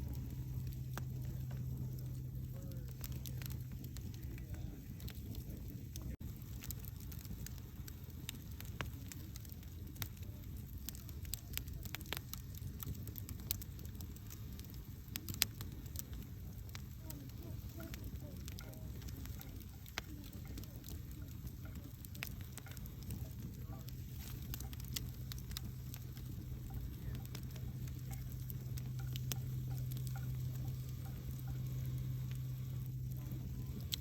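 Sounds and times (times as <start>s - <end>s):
campfire flames rumbling: 0.0s - 34.0s
fire crackling and popping: 0.0s - 34.0s.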